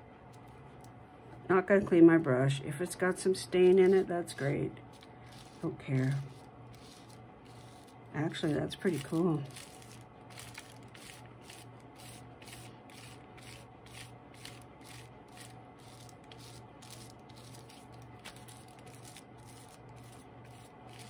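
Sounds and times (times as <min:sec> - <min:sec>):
foam brush rubbing on paper: 0:03.6 - 0:21.0.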